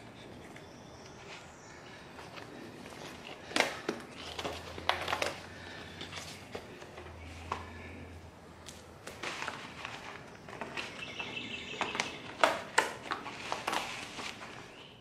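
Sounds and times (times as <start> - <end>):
rubber bands rustling and squeaking: 0.0 - 15.0.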